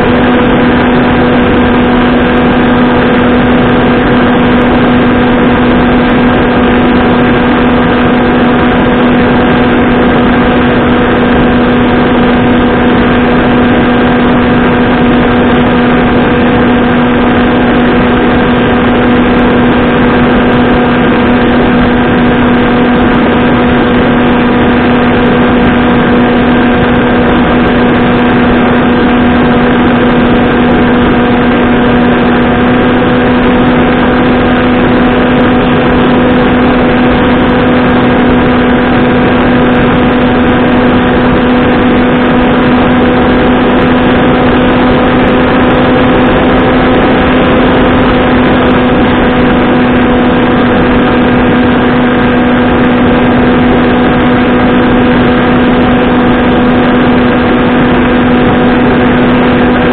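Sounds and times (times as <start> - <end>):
electric motor and propeller drone: 0.0 - 59.9.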